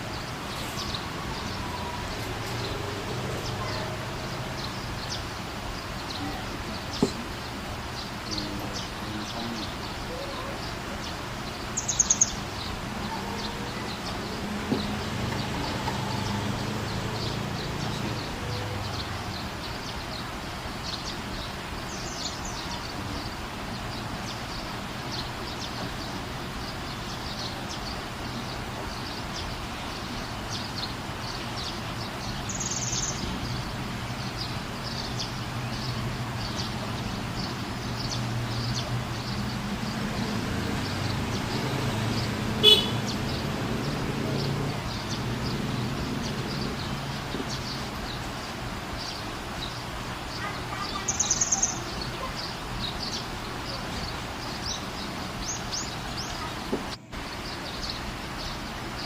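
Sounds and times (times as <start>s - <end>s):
bird chirping: 0.0s - 59.0s
low traffic rumble: 0.0s - 59.0s.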